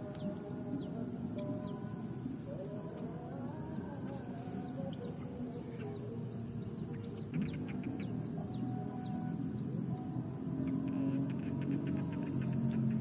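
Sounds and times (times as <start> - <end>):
background music: 0.0 - 13.0
small birds chirping: 0.0 - 13.0.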